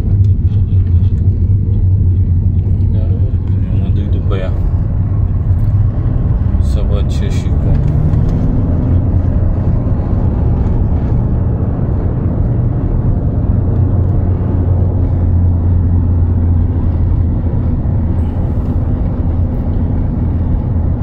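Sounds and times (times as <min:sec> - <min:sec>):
car interior engine and tyre drone: 0:00.0 - 0:21.0.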